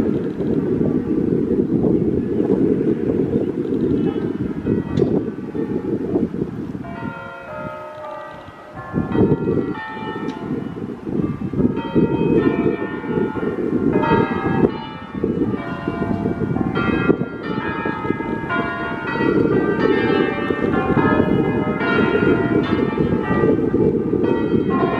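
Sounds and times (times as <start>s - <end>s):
church bells ringing: 3.4s - 24.9s.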